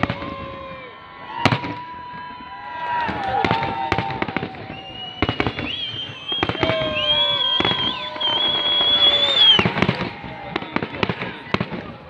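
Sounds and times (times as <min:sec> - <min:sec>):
fireworks bangs and crackles: 0:00.0 - 0:12.0
fireworks whistling: 0:00.0 - 0:12.0.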